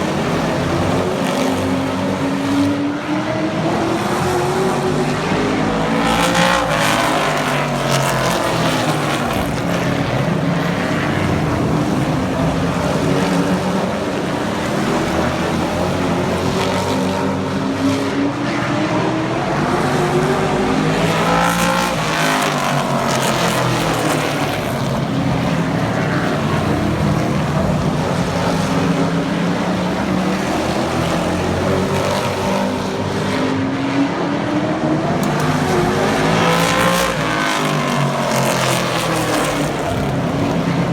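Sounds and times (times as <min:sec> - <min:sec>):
racing truck engines: 0:00.0 - 0:40.9.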